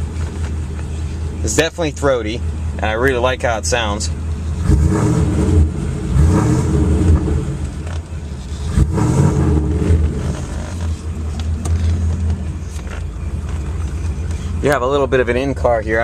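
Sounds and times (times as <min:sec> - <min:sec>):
car engine throaty exhaust: 0:00.0 - 0:16.0.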